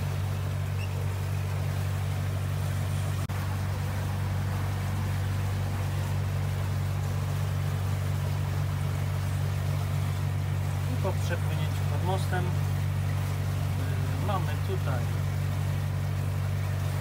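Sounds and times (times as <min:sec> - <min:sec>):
motorboat engine humming: 0:00.0 - 0:17.0
rushing water: 0:00.0 - 0:17.0
wind: 0:00.0 - 0:17.0.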